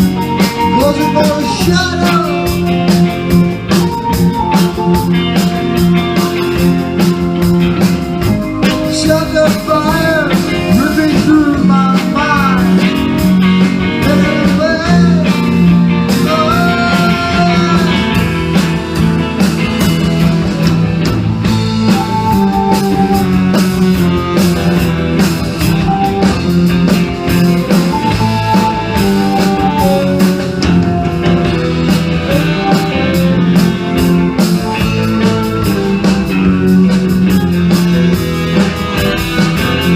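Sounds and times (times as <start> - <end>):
lead guitar bending notes: 0.0 - 39.9
rock band playing: 0.0 - 39.9.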